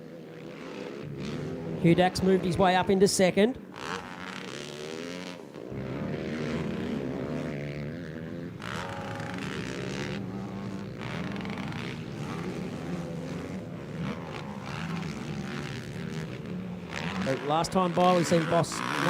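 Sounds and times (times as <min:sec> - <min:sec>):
racing quad engines: 0:00.0 - 0:19.0.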